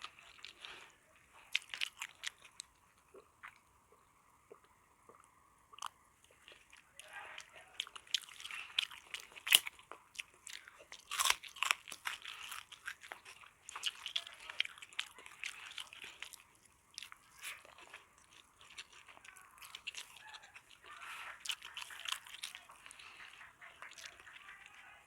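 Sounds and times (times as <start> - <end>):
person chewing crunchy food: 0.0 - 25.0.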